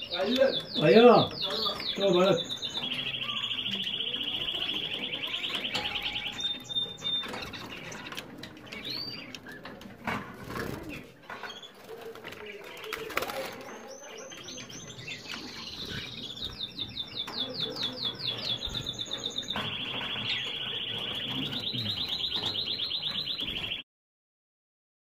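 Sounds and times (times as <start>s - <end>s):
canaries singing: 0.0s - 23.8s.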